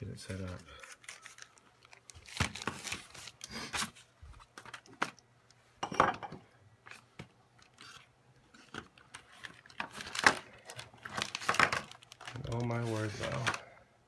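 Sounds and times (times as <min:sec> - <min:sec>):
paper rustling: 0:00.2 - 0:05.2, 0:06.8 - 0:13.7.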